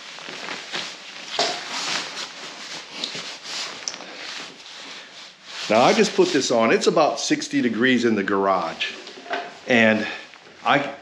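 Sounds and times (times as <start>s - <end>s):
nylon rain jacket rustling: 0.0s - 11.0s.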